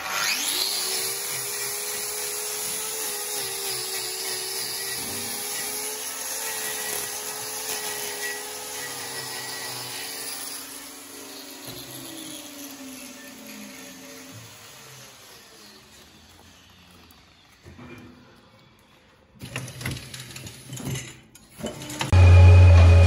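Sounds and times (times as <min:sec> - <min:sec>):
angle grinder whining: 0:00.0 - 0:17.7, 0:22.0 - 0:23.0.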